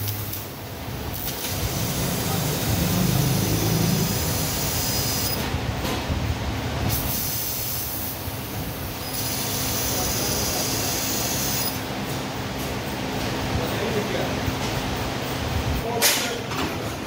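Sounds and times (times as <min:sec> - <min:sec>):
laser cutting machine noise: 0:00.0 - 0:16.2
high gas hiss: 0:00.0 - 0:17.0.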